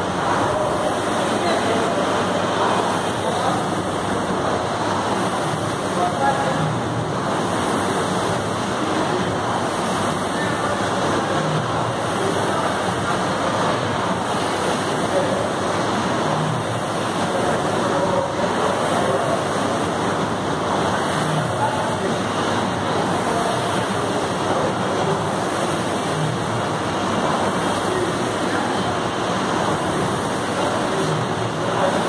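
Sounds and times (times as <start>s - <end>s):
rowing machine fan flywheel spinning: 0.0s - 32.0s.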